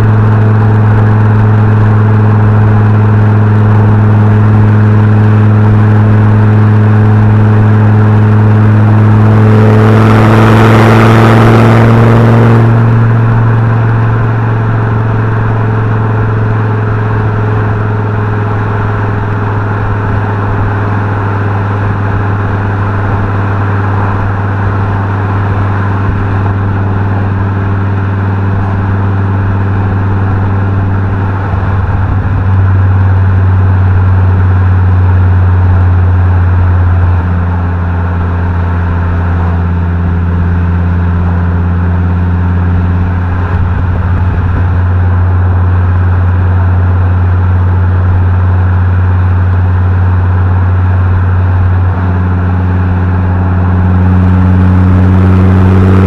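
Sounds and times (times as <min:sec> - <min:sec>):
car engine and exhaust droning: 0:00.0 - 0:56.0.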